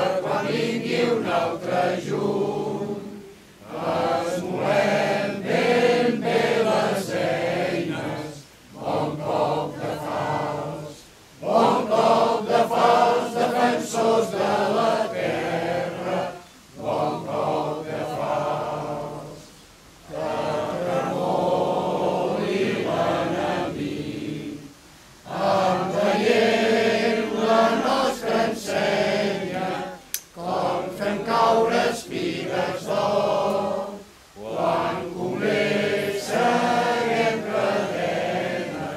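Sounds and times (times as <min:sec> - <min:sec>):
crowd singing together: 0:00.0 - 0:38.9.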